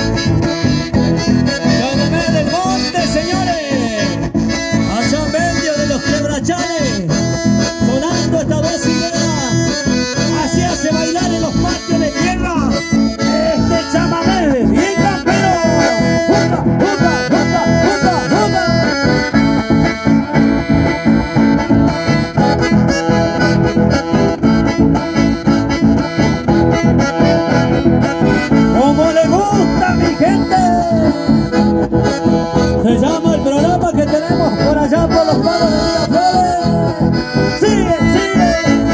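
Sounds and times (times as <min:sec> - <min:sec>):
accordion melody: 0:00.0 - 0:38.9
strummed acoustic guitar: 0:00.0 - 0:38.9.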